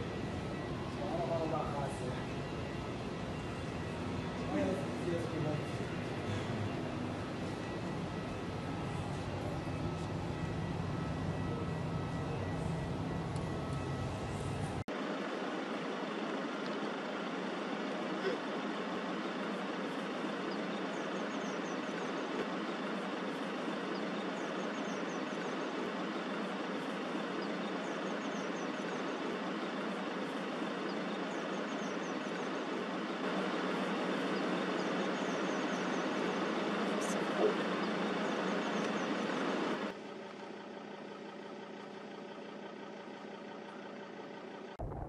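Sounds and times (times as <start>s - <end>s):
vehicle engine idling: 0.0s - 45.0s.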